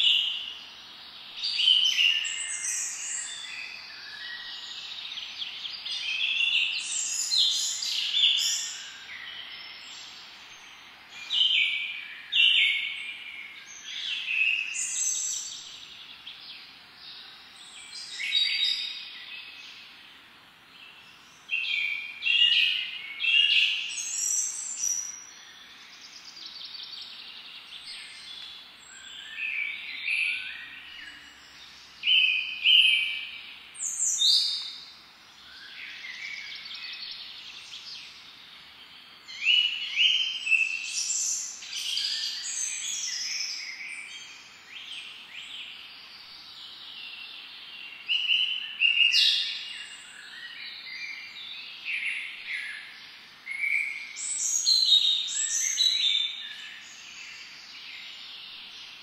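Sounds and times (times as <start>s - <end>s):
faint outdoor background hiss: 0.0s - 59.0s
songbirds chirping and trilling: 0.0s - 59.0s.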